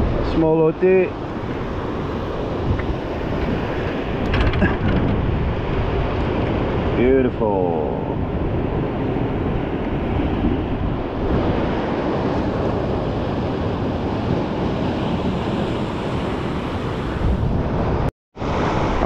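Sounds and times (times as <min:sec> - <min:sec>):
surf washing over rocks: 0:00.0 - 0:19.0
wind buffeting microphone: 0:00.0 - 0:19.0.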